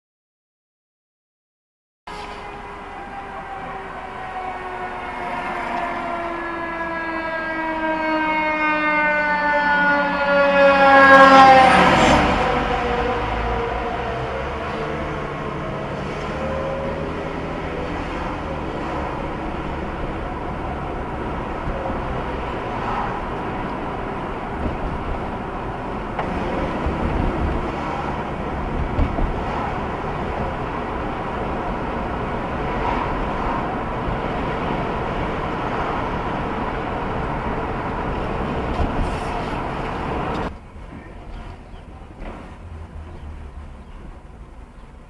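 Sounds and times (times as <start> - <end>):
car road and engine noise: 2.1 - 45.0.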